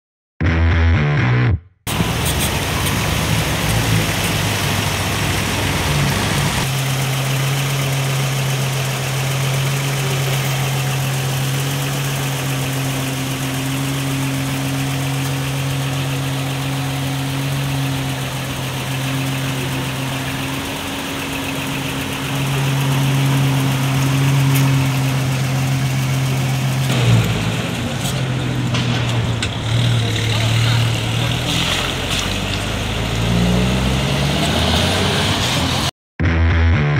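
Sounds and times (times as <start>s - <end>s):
car engine idling: 1.9s - 33.2s.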